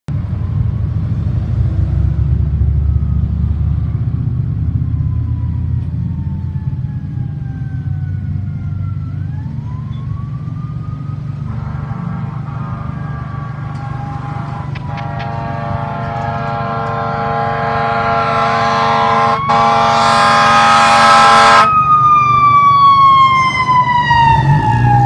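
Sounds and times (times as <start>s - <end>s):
fire engine rumble: 0.1s - 25.0s
siren wailing: 4.7s - 25.0s.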